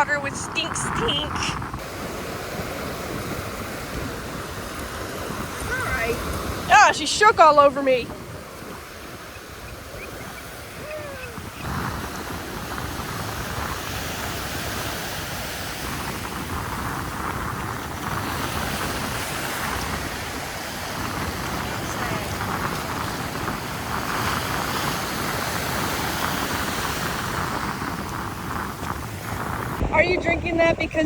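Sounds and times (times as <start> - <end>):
ocean surf: 0.0 - 30.4
wind buffeting microphone: 0.0 - 31.0.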